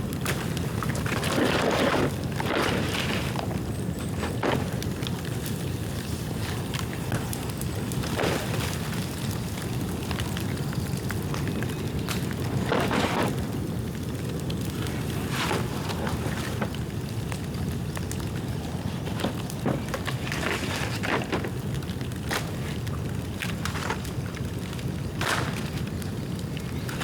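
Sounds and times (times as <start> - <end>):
bonfire flames rushing: 0.0 - 27.0
fire crackling: 0.0 - 27.0.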